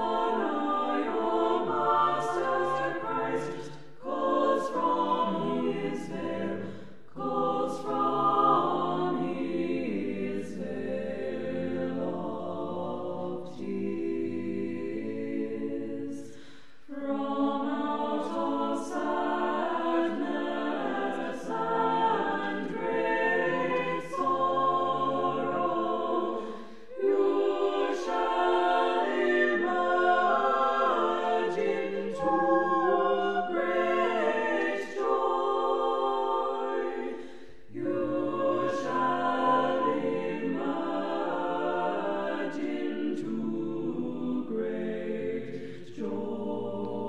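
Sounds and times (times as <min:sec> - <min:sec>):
choir singing unaccompanied: 0:00.0 - 0:47.0.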